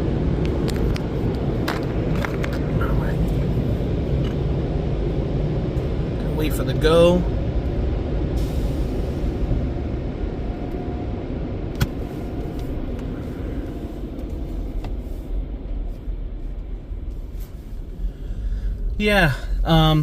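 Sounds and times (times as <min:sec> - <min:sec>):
car cabin rumble: 0:00.0 - 0:08.4, 0:09.1 - 0:20.0.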